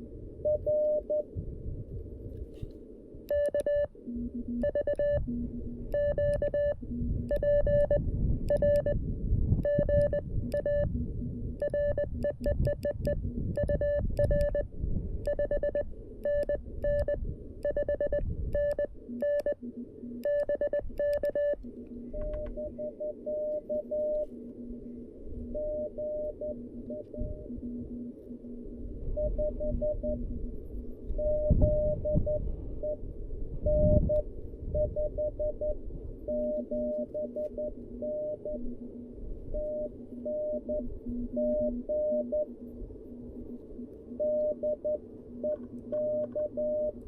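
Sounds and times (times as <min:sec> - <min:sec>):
low radio band hiss: 0:00.0 - 0:47.0
morse code beeps: 0:00.4 - 0:01.3, 0:03.3 - 0:09.0, 0:09.6 - 0:24.8, 0:25.4 - 0:28.6, 0:29.2 - 0:30.2, 0:31.2 - 0:33.0, 0:33.7 - 0:34.2, 0:34.8 - 0:38.8, 0:39.5 - 0:42.7, 0:43.3 - 0:47.0.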